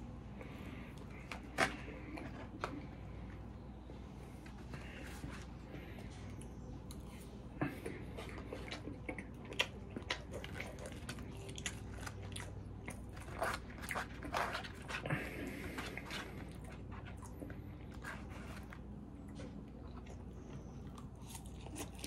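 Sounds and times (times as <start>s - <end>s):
person chewing food: 0.3s - 22.0s.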